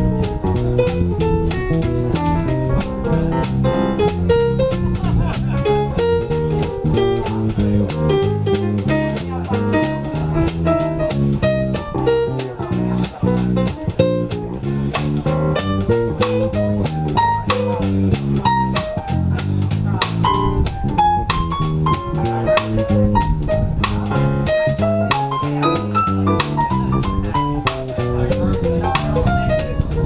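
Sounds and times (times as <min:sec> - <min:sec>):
drum kit: 0:00.0 - 0:30.0
electric bass guitar: 0:00.0 - 0:30.0
electric keyboard melody: 0:00.0 - 0:30.0.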